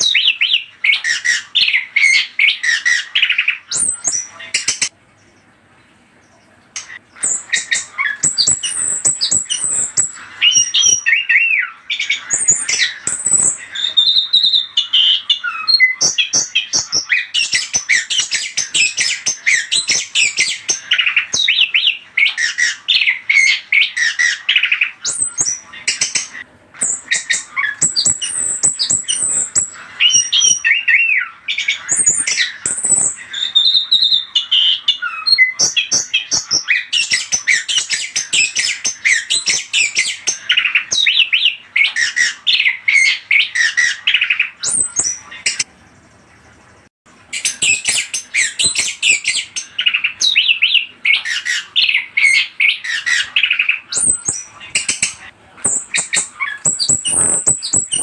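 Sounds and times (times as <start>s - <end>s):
recorded bird song: 0.0s - 58.0s.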